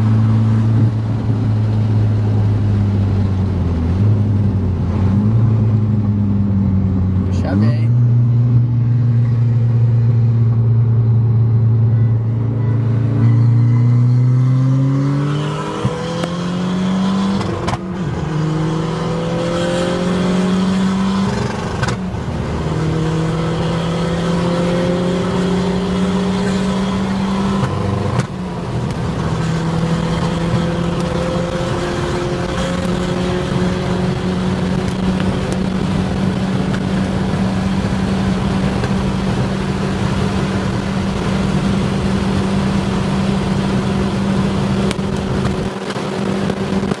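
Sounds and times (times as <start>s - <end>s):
car engine accelerating through gears: 0.0s - 47.0s.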